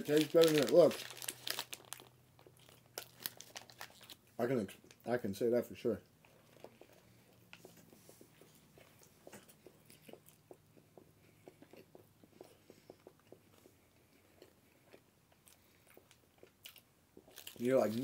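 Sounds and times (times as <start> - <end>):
chewing soft food: 0.4 - 5.1, 6.0 - 18.0.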